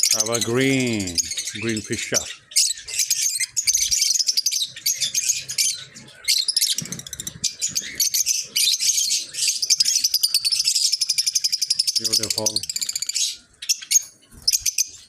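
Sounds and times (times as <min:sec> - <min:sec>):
birds chattering and chirping: 0:00.0 - 0:15.0.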